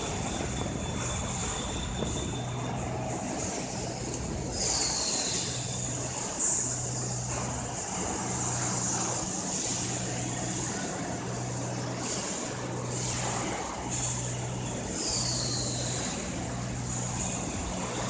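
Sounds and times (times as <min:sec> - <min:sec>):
machine shop din: 0:00.0 - 0:18.0.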